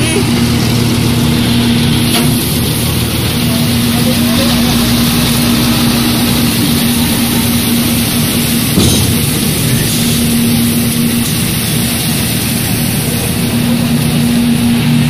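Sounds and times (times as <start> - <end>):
diesel engine running: 0.0 - 15.0
tub crusher grinding: 0.0 - 15.0.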